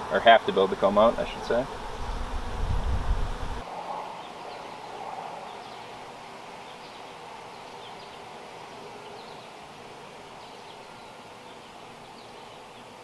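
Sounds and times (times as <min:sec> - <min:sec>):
bee colony humming: 0:00.0 - 0:13.0.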